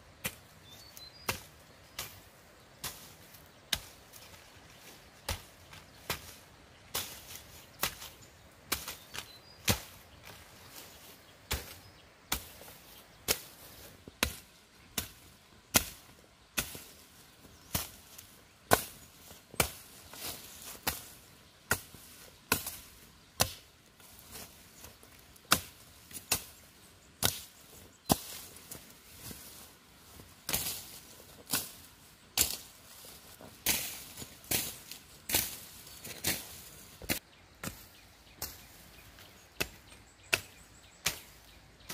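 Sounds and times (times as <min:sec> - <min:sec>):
machete chopping dry grass: 0:01.2 - 0:02.2, 0:02.8 - 0:31.8, 0:32.4 - 0:38.8, 0:39.6 - 0:41.9.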